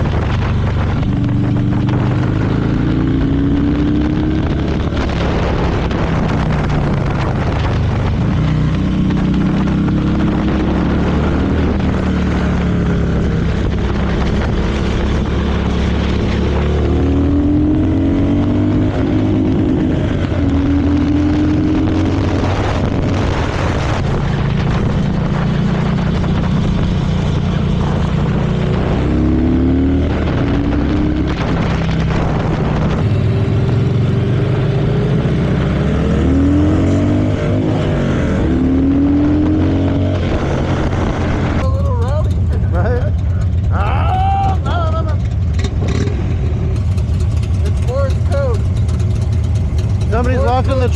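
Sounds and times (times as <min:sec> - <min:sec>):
road noise: 0:00.0 - 0:50.9
vehicle engine running: 0:00.0 - 0:50.9.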